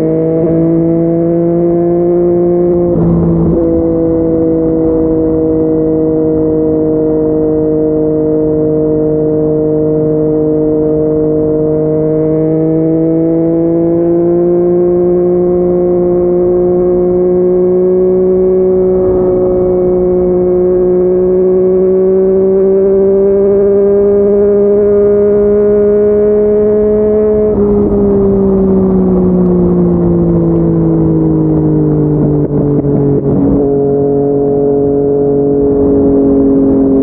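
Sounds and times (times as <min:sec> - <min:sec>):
motorcycle engine cruising: 0:00.0 - 0:37.0.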